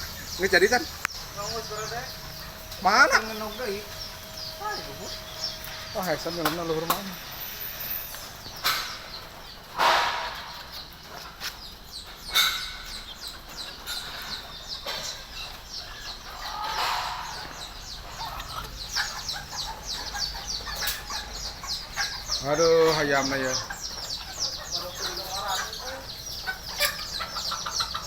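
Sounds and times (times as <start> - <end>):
chickens clucking and chirping: 0.0 - 28.0.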